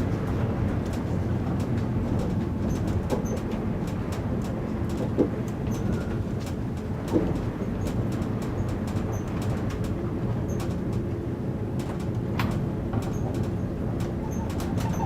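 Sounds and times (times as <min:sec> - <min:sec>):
monorail low rumble: 0:00.0 - 0:15.0.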